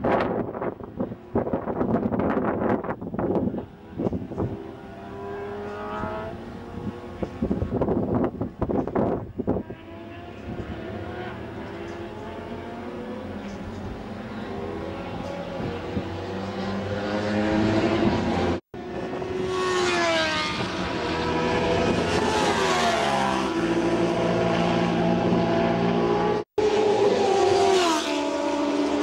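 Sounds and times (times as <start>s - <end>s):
motorcycles passing by: 3.2s - 29.0s.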